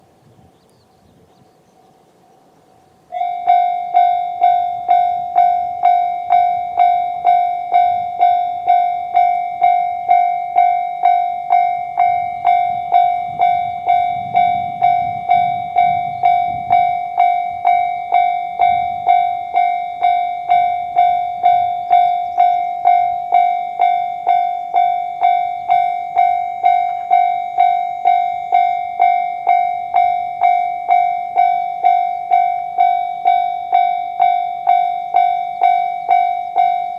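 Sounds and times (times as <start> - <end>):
level-crossing warning bell dinging: 3.0 - 36.9.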